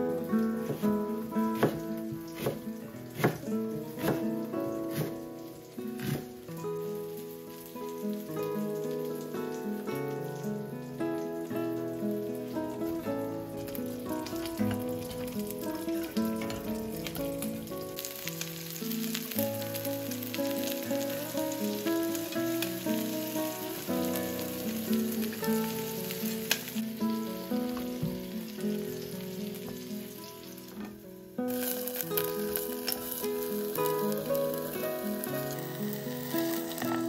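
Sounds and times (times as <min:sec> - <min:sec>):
background music with held notes: 0:00.0 - 0:37.0
food sizzling in oil: 0:00.0 - 0:37.0.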